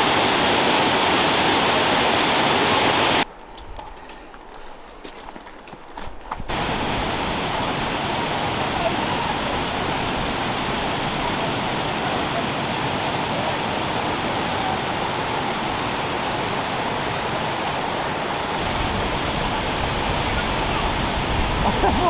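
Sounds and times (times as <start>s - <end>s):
waterfall pouring: 0.0s - 3.2s, 6.5s - 22.0s.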